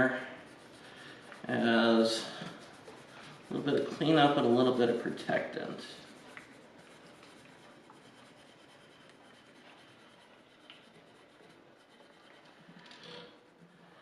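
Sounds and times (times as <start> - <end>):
applicator mop rubbing fretboard: 0.0 - 12.6.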